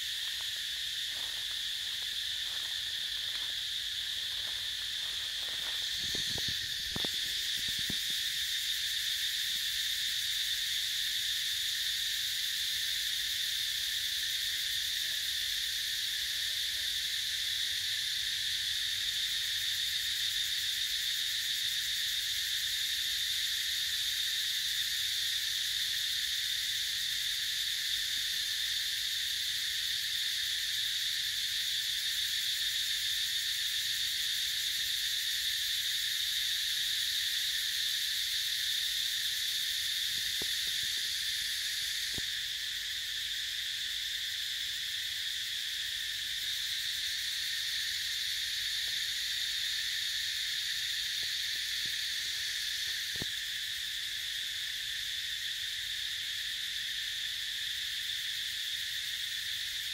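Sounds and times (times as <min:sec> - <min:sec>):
forest insects droning: 0:00.0 - 0:59.9.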